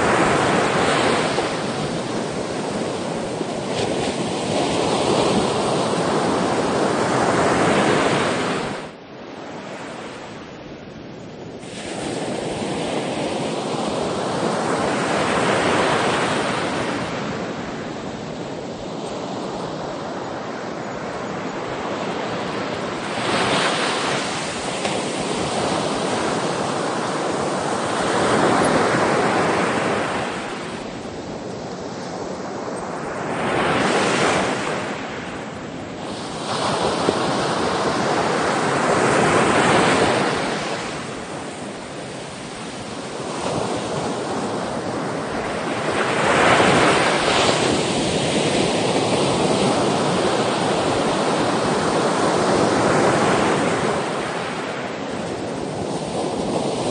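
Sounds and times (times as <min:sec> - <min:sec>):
sea waves breaking: 0:00.0 - 0:10.5, 0:11.5 - 0:56.9.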